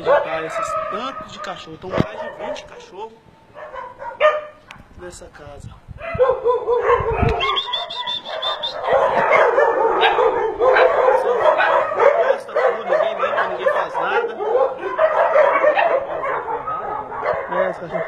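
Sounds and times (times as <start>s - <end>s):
dogs barking and yelping: 0.0s - 4.9s, 6.0s - 18.0s.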